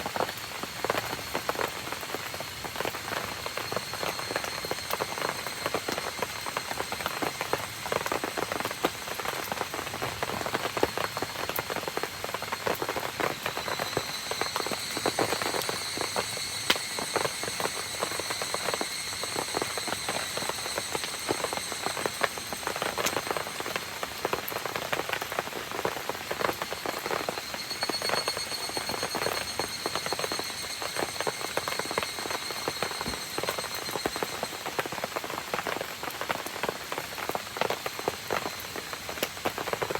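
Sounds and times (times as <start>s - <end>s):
faint high steady trill: 0.0s - 39.3s
rain falling: 0.0s - 39.9s.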